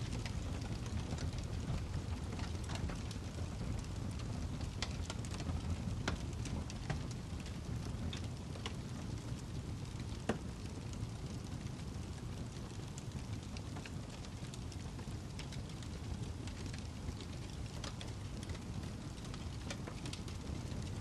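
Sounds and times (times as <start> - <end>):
burning log crackling and popping: 0.0 - 21.0
low rumble of flames: 0.0 - 21.0.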